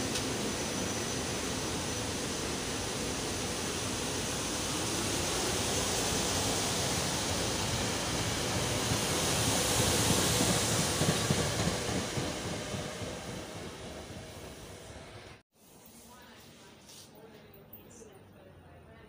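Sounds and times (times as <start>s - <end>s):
train wheels rushing on rail: 0.0s - 15.4s.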